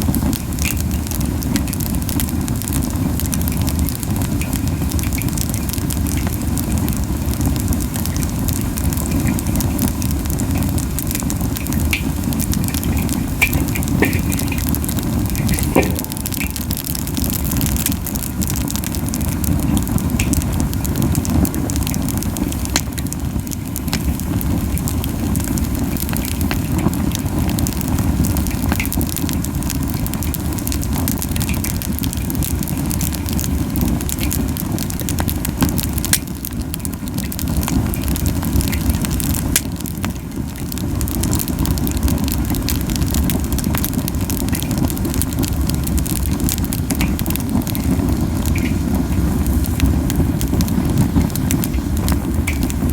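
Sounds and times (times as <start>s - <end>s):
fire flames rushing: 0.0s - 52.9s
wood crackling and popping: 0.0s - 52.9s.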